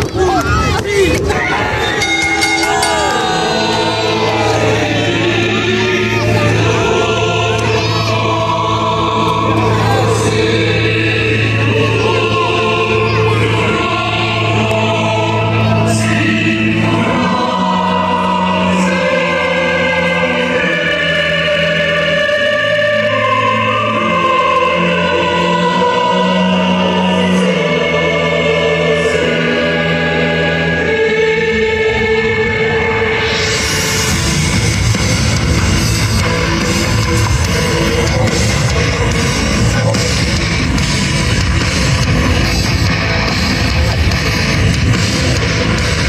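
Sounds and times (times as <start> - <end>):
choir singing held notes: 1.3 - 46.0.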